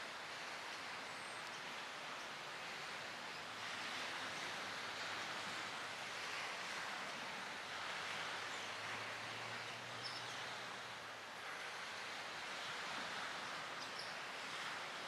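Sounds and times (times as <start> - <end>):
small waves washing on shore: 0.0 - 15.0.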